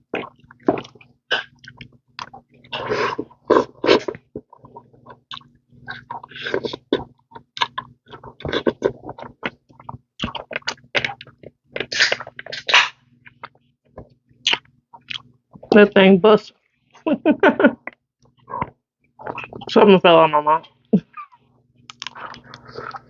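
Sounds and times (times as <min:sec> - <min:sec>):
wet chewing and smacking: 0:00.0 - 0:15.8, 0:17.8 - 0:19.7, 0:21.3 - 0:23.0.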